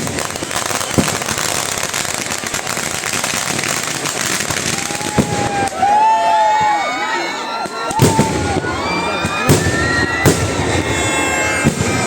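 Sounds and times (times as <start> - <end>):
firework bang: 0.0 - 5.8, 7.9 - 12.0
fireworks crackling: 0.0 - 12.0.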